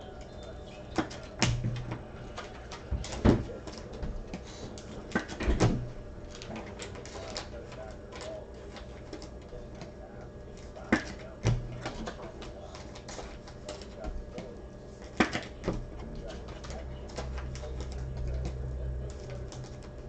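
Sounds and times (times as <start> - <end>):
cards and packs rustling: 0.0 - 20.0.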